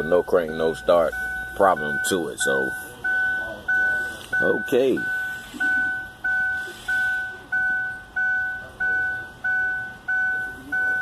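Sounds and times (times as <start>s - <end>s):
car warning chime dinging: 0.0s - 11.0s.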